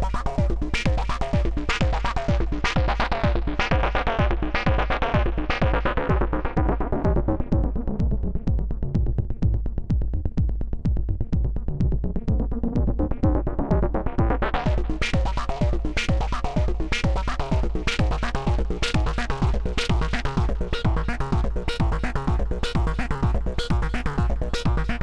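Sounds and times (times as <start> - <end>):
techno drum-machine beat: 0.0 - 25.0.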